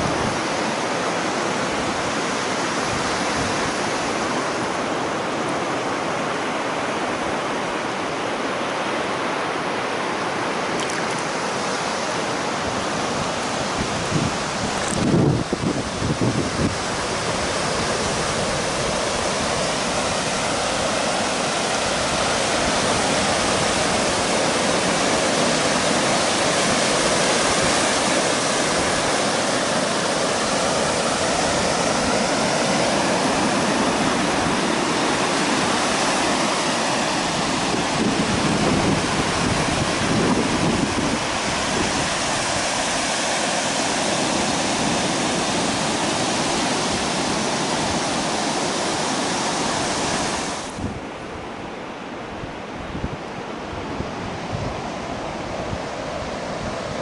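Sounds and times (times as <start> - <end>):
small surf washing up beach: 0.0 - 57.0.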